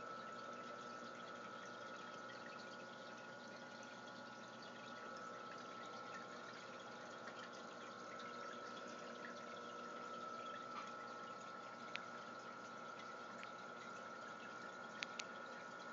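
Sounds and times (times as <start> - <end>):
faint filter hum: 0.0 - 15.9
water trickling and dripping: 0.0 - 15.9.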